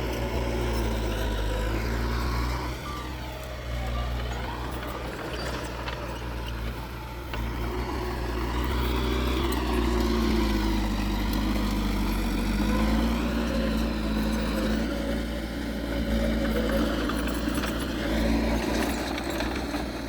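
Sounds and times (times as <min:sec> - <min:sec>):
diesel engine of heavy machinery: 0:00.0 - 0:20.0.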